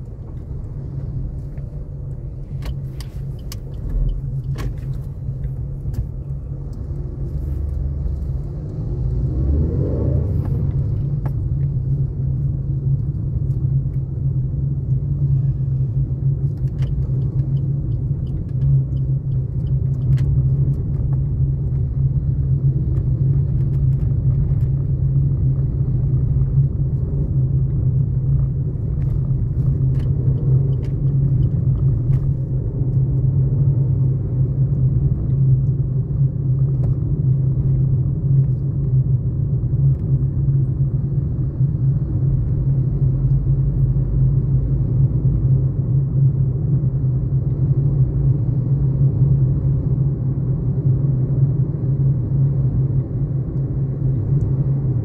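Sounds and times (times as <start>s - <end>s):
vehicle engine and tyre rumble: 0.0s - 55.0s.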